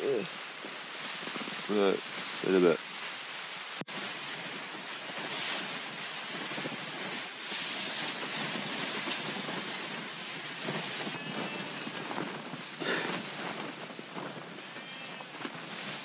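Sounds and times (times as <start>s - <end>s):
heavy rain on tent fabric: 0.0s - 16.0s
wind: 0.0s - 16.0s.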